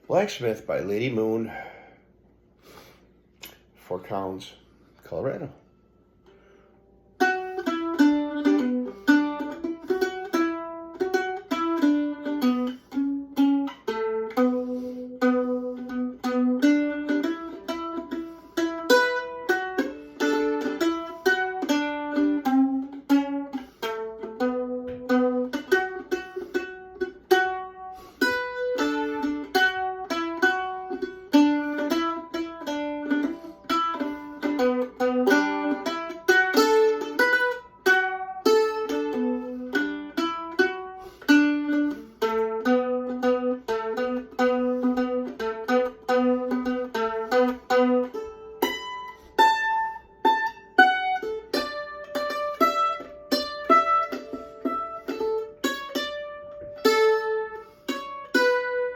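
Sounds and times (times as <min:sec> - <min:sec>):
plucked string instrument tune: 0:04.2 - 0:58.9.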